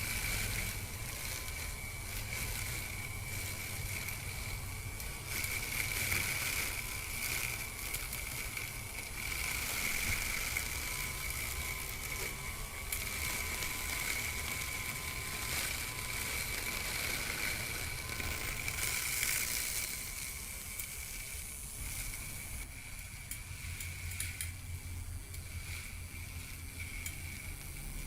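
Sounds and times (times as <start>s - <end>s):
blades cutting grass: 0.0s - 28.0s
electric motor whining: 0.0s - 28.0s.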